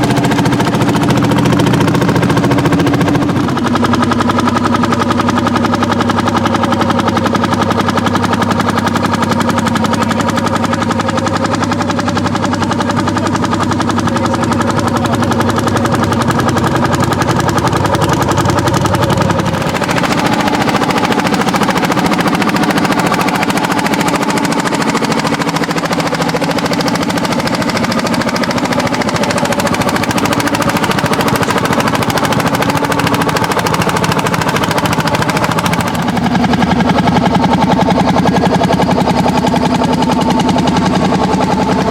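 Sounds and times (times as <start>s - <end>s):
tractor engines knocking: 0.0s - 41.9s.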